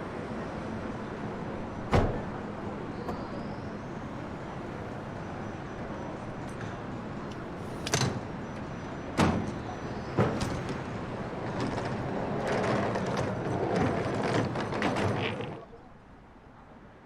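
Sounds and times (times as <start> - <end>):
vehicle background noise: 0.0 - 17.0.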